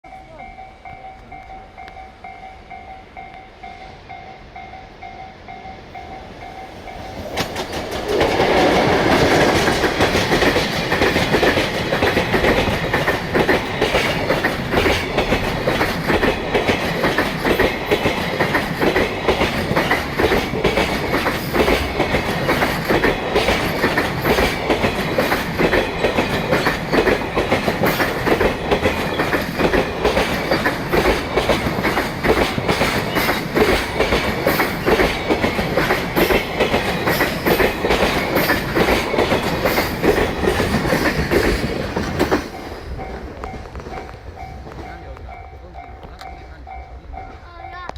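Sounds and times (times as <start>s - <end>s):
train wheels clacking over rail joints: 7.0s - 46.5s.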